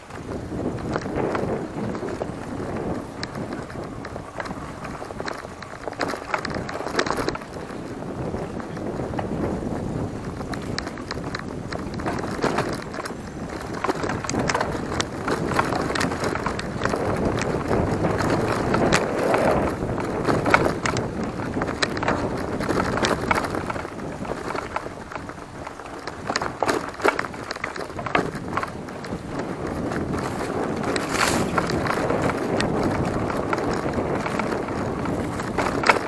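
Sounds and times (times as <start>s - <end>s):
bike rattling over bumps: 0.0s - 36.0s
bike tyres on dirt: 0.0s - 36.0s.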